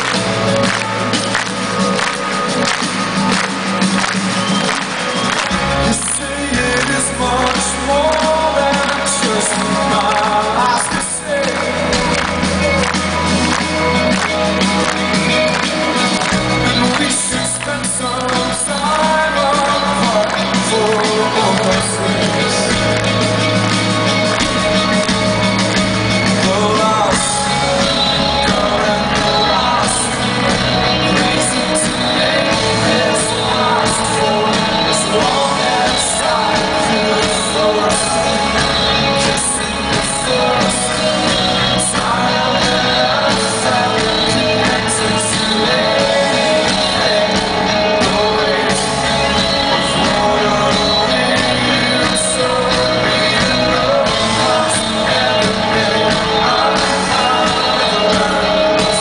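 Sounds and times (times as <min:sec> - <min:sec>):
drums and cymbals: 0:00.0 - 0:59.0
electric guitar: 0:00.0 - 0:59.0
man singing: 0:04.5 - 0:59.0.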